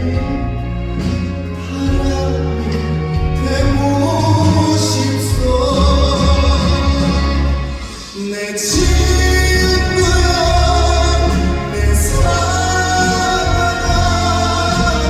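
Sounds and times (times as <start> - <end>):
band playing slow ballad: 0.0 - 15.0
person singing: 0.0 - 15.0.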